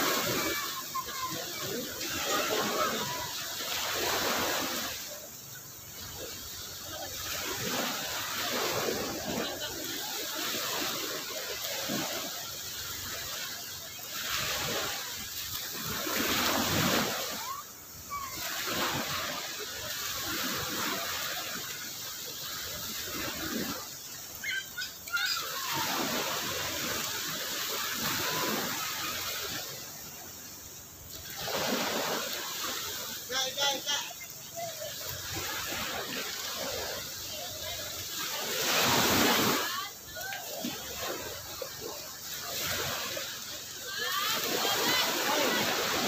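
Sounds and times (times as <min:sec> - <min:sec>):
small waves breaking on beach: 0:00.0 - 0:46.0.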